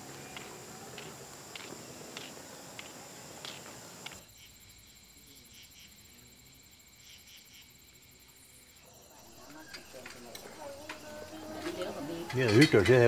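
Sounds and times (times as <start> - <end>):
insects trilling and chirping: 0.0 - 13.0
outdoor village ambience: 0.0 - 13.0.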